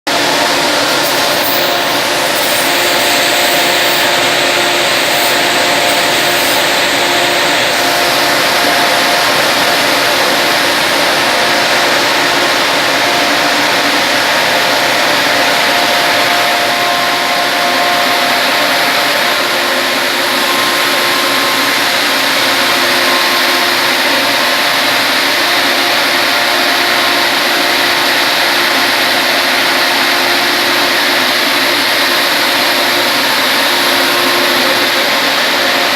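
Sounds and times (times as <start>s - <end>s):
grain dryer fan and burner rushing: 0.1s - 35.9s.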